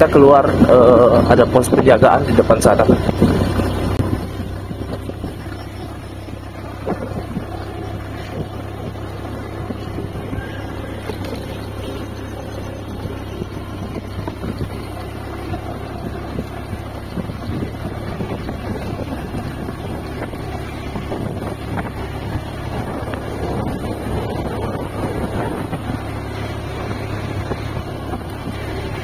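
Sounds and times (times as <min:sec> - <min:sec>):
road rumble: 0:00.0 - 0:29.0
vehicle engine hum: 0:00.0 - 0:29.0
wind buffeting microphone: 0:00.0 - 0:29.0.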